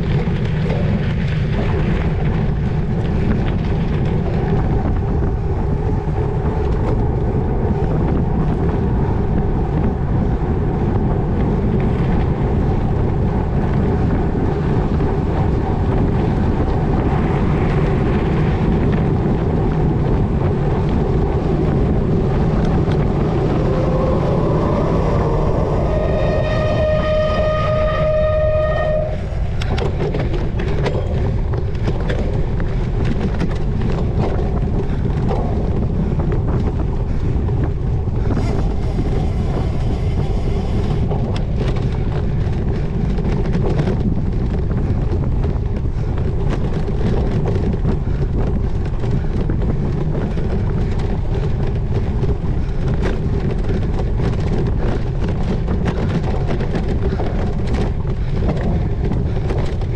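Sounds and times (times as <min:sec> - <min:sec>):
bike rattling over bumps: 0:00.0 - 0:59.9
wind buffeting microphone: 0:00.0 - 0:59.9.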